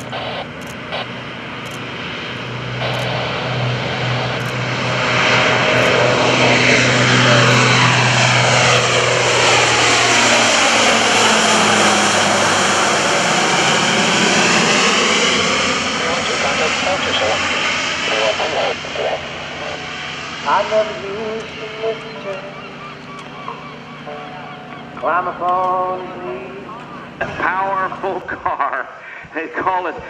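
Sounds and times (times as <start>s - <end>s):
propeller aircraft taking off: 0.0s - 29.1s.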